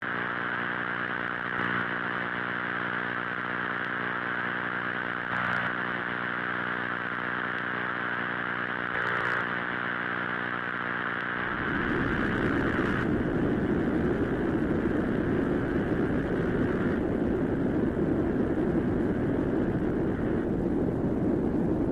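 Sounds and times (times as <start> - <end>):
synthesized buzzing drone: 0.0 - 21.9.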